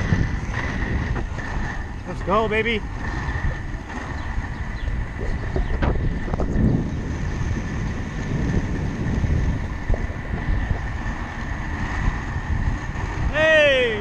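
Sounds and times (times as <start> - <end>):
skate wheels rolling on asphalt: 0.0 - 14.0
wind on microphone: 0.0 - 14.0.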